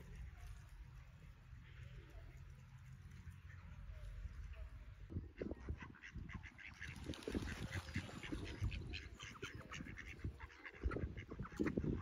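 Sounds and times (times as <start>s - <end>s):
birds calling: 1.6s - 12.0s.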